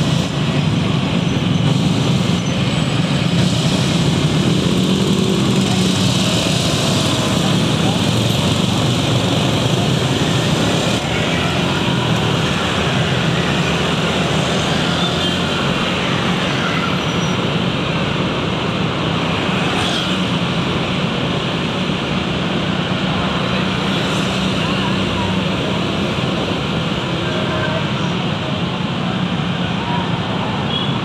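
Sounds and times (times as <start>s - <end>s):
motorbike traffic: 0.0s - 31.0s.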